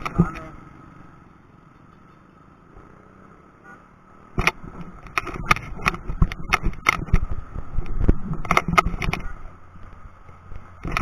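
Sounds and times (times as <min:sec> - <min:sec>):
bicycle rattling over rough road: 0:00.0 - 0:03.0, 0:04.2 - 0:11.0.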